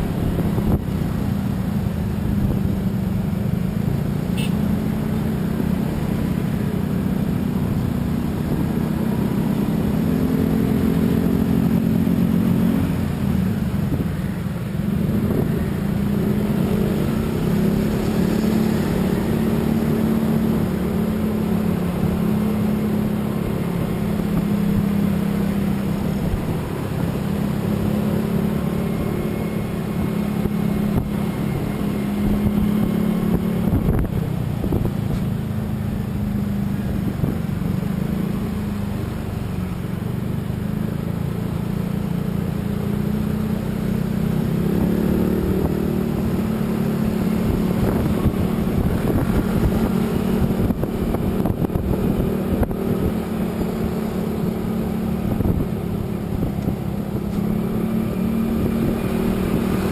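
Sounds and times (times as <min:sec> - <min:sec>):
road and wind noise: 0:00.0 - 0:59.9
vehicle engine drone: 0:00.0 - 0:59.9.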